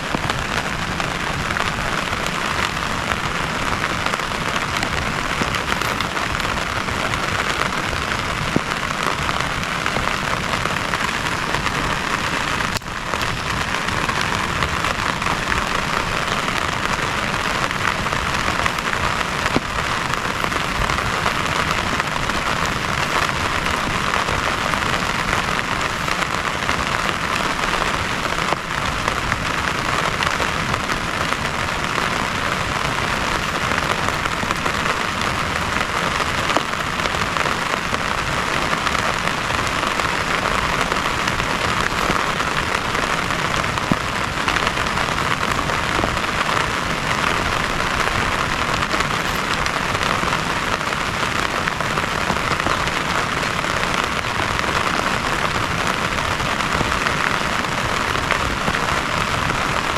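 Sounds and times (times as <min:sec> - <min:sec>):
heavy rain falling: 0:00.0 - 0:59.9
sharp raindrop hits: 0:00.0 - 0:59.9.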